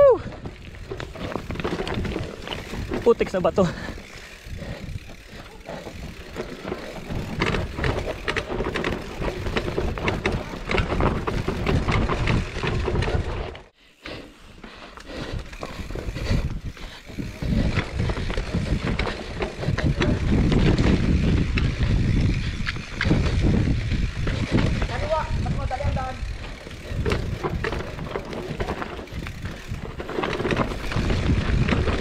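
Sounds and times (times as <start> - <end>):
bike rattling over bumps: 0.0 - 32.0
bike tyres on dirt: 0.0 - 32.0.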